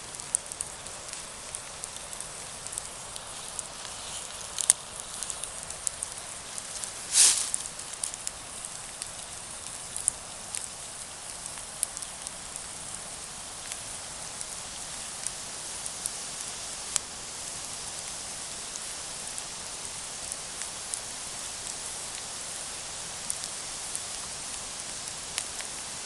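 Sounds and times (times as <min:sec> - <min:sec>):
campfire crackling and hissing: 0:00.0 - 0:26.0.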